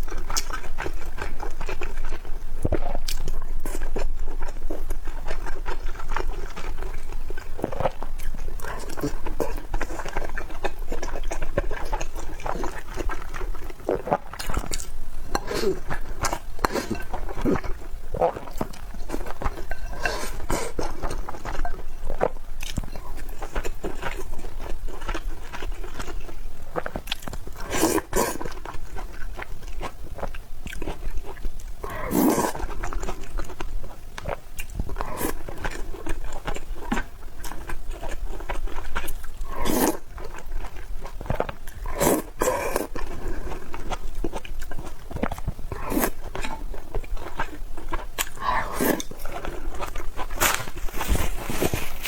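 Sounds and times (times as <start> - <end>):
person chewing crunchy food: 0.0 - 52.0.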